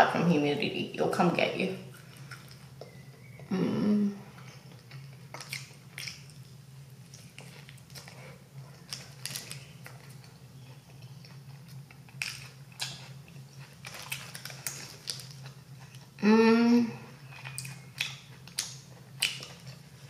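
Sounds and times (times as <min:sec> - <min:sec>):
steady low hum: 0:00.0 - 0:20.0
chewing: 0:01.9 - 0:03.5, 0:04.4 - 0:16.2, 0:17.2 - 0:20.0.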